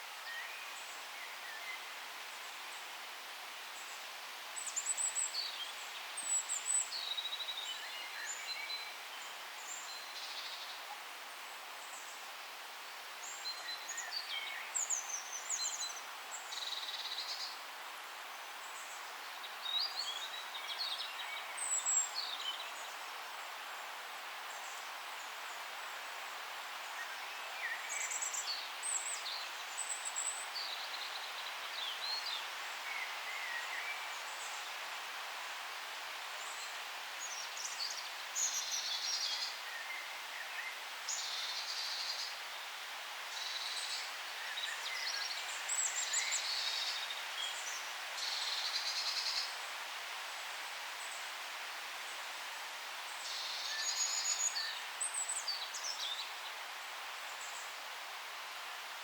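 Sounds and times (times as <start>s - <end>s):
leaves rustling in wind: 0.0s - 59.0s.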